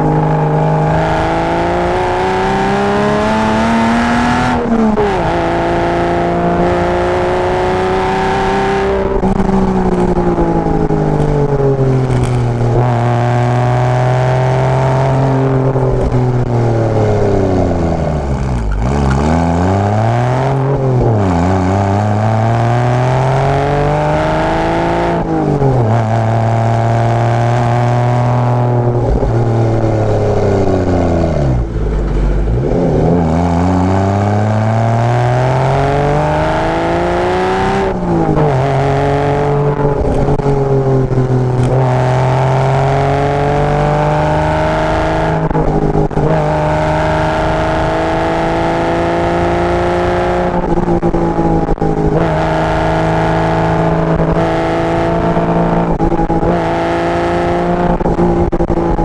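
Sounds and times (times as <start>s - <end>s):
sports car engine revving: 0.0s - 59.0s.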